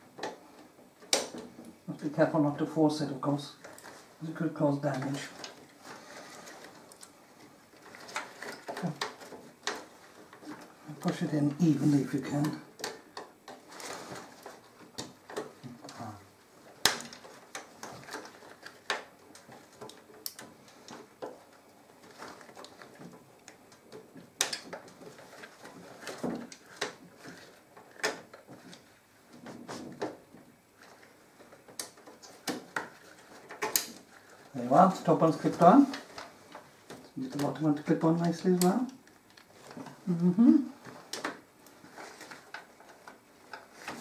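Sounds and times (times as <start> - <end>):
soft rustling of gloves: 1.7 - 44.0.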